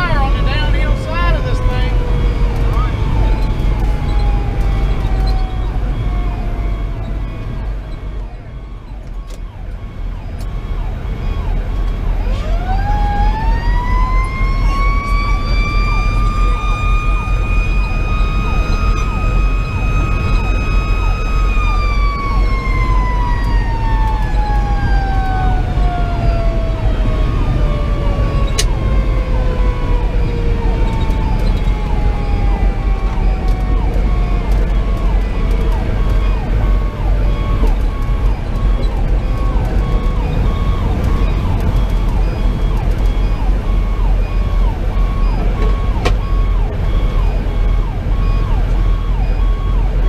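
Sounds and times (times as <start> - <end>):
diesel engine drone: 0.0 - 50.0
mechanical siren wailing: 0.0 - 50.0.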